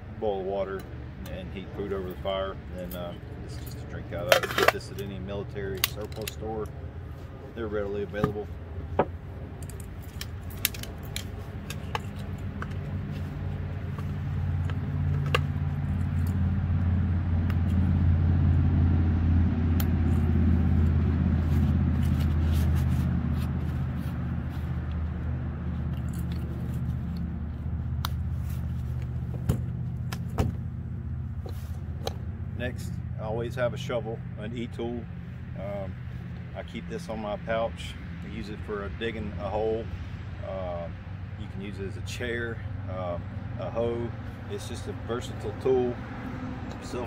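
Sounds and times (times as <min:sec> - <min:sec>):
passing vehicle engine drone: 0:00.9 - 0:47.0.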